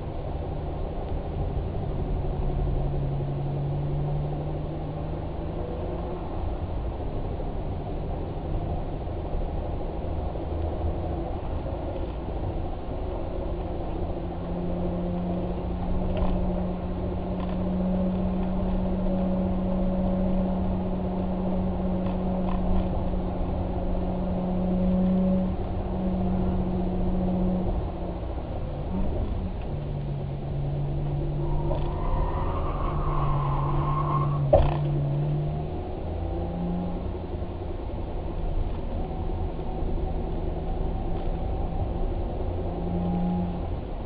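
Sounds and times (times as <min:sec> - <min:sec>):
vehicle engine rumbling: 0:00.0 - 0:44.0.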